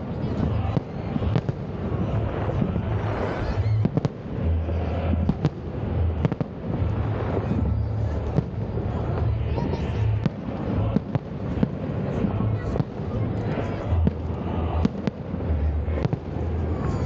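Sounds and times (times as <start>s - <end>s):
fireworks crackling and rumbling: 0.0s - 17.0s
sharp fireworks bangs: 0.0s - 17.0s.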